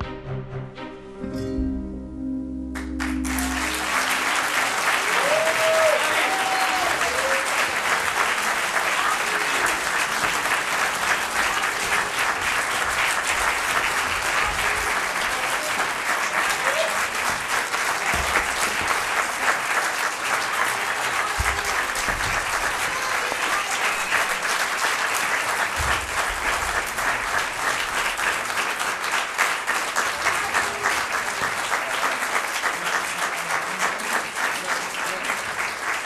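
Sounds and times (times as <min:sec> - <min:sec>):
audience applauding: 0:02.7 - 0:36.0.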